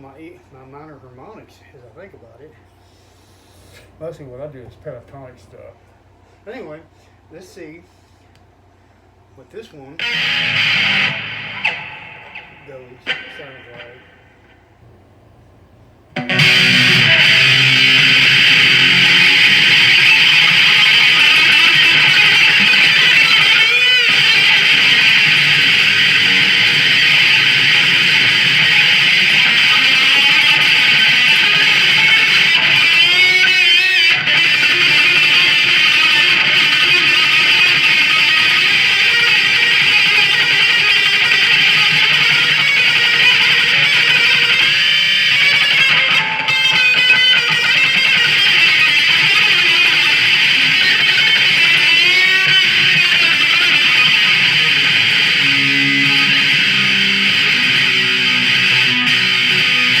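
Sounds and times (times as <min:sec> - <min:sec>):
electric guitar with string bends: 0:10.0 - 1:00.0.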